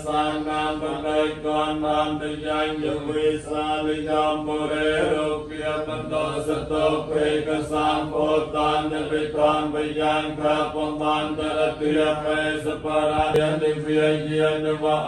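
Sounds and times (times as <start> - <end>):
men chanting in monotone: 0.0 - 15.0.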